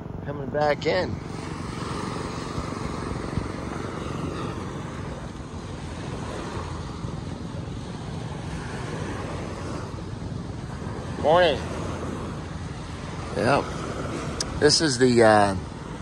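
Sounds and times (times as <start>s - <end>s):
small waves washing onto beach: 0.0s - 16.0s
wind rumbling on microphone: 0.0s - 16.0s.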